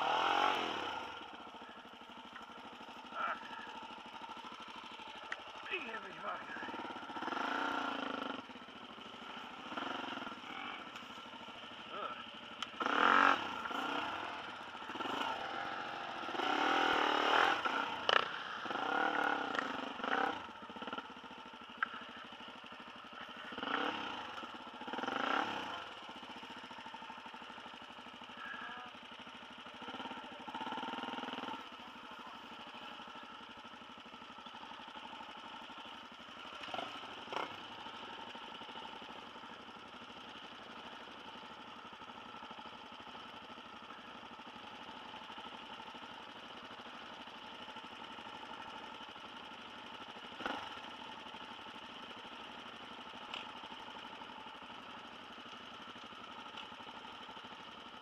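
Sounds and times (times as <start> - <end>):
dirt bike engines revving: 0.0 - 46.3, 47.0 - 51.6.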